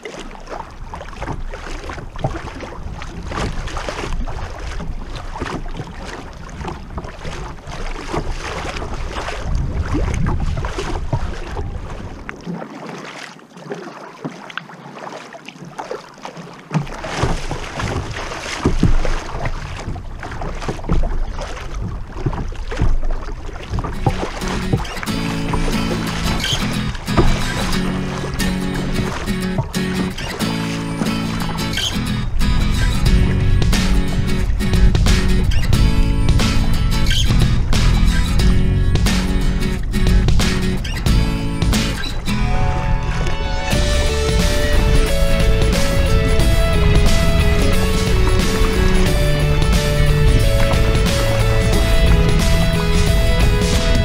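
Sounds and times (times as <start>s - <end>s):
water splashing against kayak hull: 0.0s - 54.0s
wind buffeting microphone: 0.7s - 12.4s, 17.2s - 54.0s.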